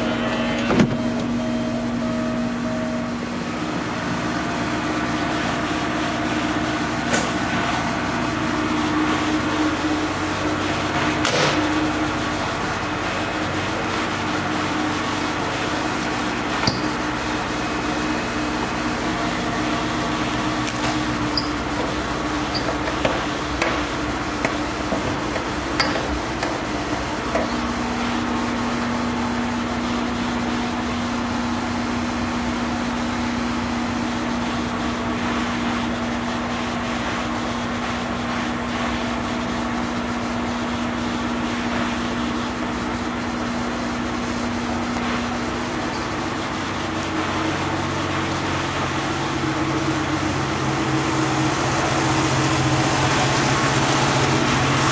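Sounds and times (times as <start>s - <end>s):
machine hum with low drone: 0.0s - 54.9s.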